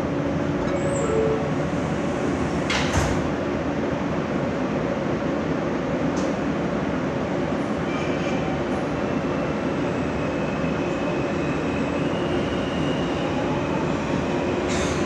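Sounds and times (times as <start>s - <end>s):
subway car rumble: 0.0s - 15.0s.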